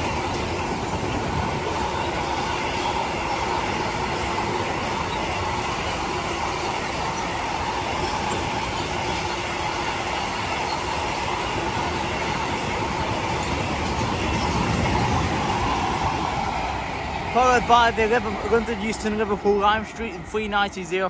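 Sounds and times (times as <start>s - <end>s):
faint wheel whine: 0.0s - 21.0s
train wagons rolling on rails: 0.0s - 21.0s.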